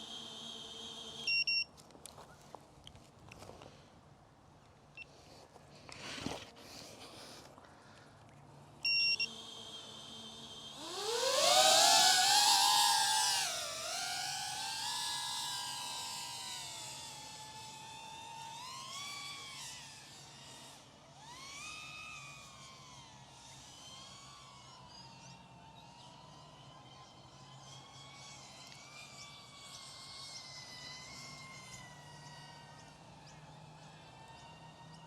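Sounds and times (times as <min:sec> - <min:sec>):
drone motors whining: 0:00.0 - 0:02.5, 0:08.7 - 0:35.0.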